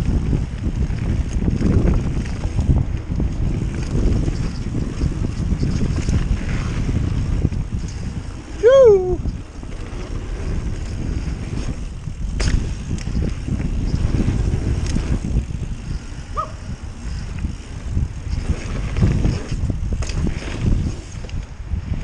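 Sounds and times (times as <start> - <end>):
mountain bike rattling on dirt: 0.0 - 22.0
wind on microphone: 0.0 - 22.0.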